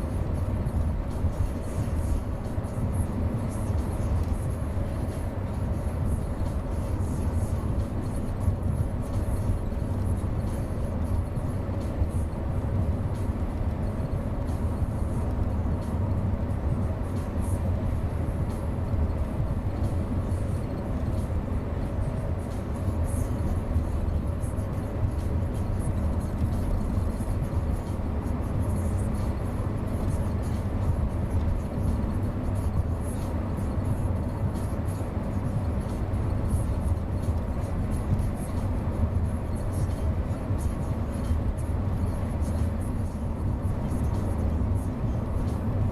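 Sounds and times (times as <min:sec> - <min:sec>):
vehicle rumbling low: 0:00.0 - 0:45.9.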